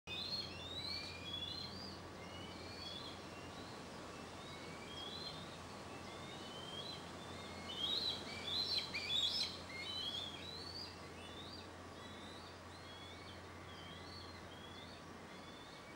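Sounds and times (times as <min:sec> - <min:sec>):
birds chirping: 0:00.1 - 0:15.9.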